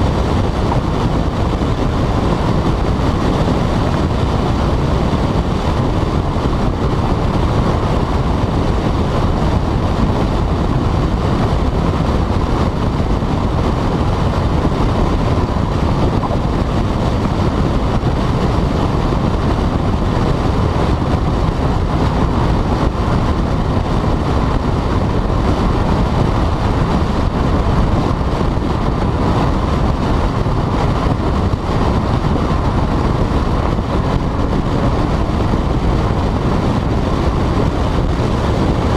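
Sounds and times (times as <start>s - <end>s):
car engine and exhaust: 0.0s - 38.9s
road and wind noise: 0.0s - 38.9s.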